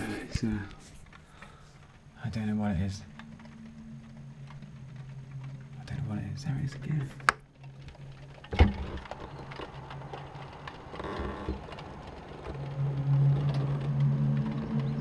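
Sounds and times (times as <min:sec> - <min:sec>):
higher tones: 0:00.0 - 0:15.0
low droning hum: 0:00.0 - 0:15.0.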